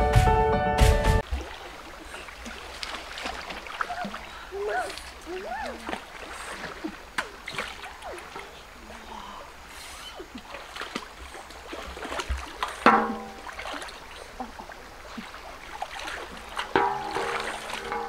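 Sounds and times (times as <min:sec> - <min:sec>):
water splashing around wading person: 0:01.2 - 0:18.0.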